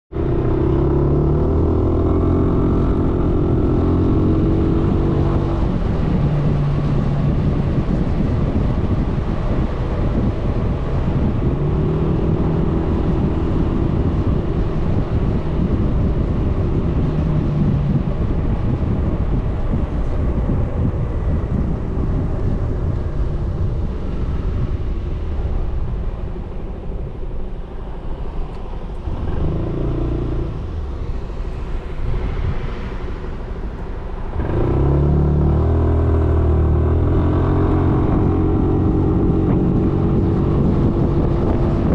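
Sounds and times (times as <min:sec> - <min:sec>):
road noise: 0:00.1 - 0:41.9
wind noise: 0:00.1 - 0:41.9.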